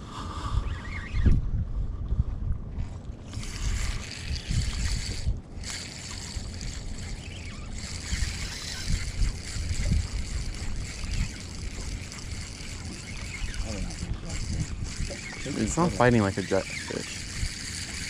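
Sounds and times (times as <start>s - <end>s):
wind gusting on microphone: 0.0s - 18.0s.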